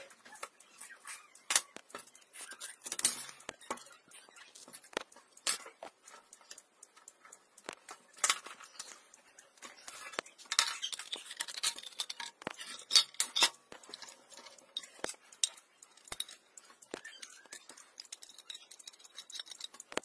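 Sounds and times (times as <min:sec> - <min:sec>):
tools clinking against metal: 0:00.0 - 0:06.6, 0:09.6 - 0:20.0
metal crackling: 0:00.0 - 0:20.0.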